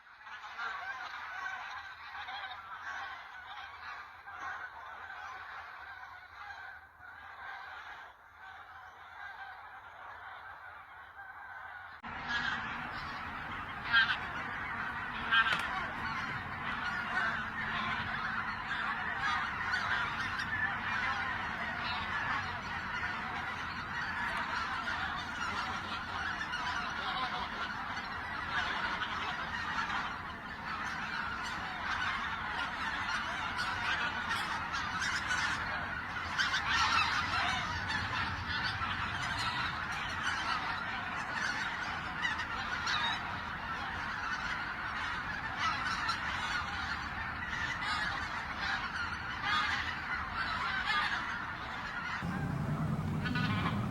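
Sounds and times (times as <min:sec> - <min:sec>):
geese honking: 0:00.0 - 0:53.9.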